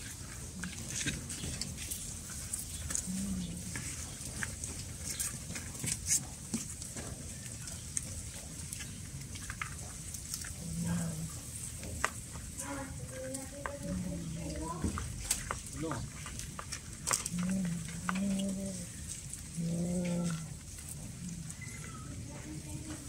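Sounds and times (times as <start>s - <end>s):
cats chewing and crunching fish: 0.0s - 23.0s.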